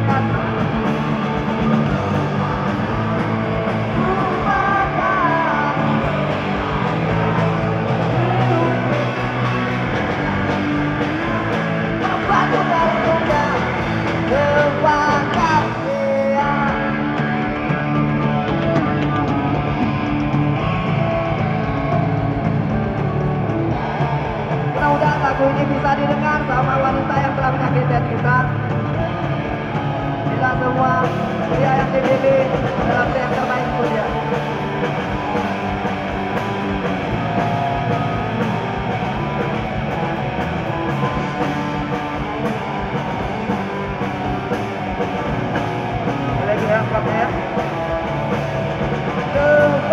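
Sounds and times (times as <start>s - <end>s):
bass guitar: 0.0s - 49.9s
punk rock band playing live: 0.0s - 49.9s
strummed electric guitars: 0.0s - 49.9s.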